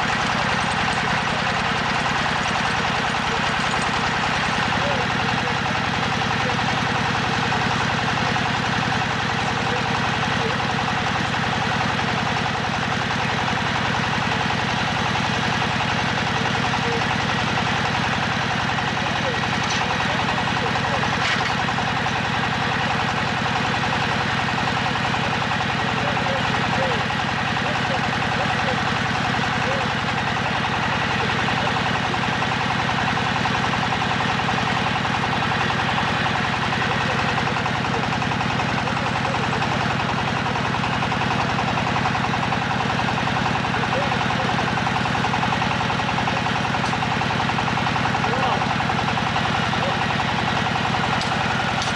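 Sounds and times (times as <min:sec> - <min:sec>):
drilling rig engine running: 0:00.0 - 0:51.9.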